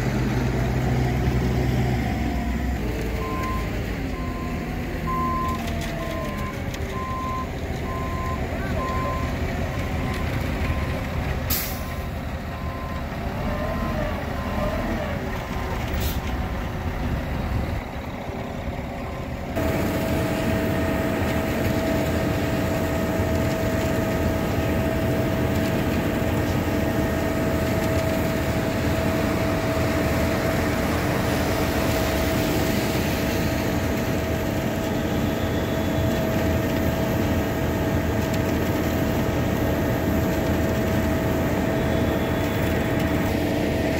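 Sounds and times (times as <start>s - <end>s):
constant machine whine: 0.0s - 43.9s
heavy diesel engine running: 0.0s - 43.9s
reversing beeper: 1.1s - 16.4s, 18.0s - 38.0s, 39.9s - 43.9s.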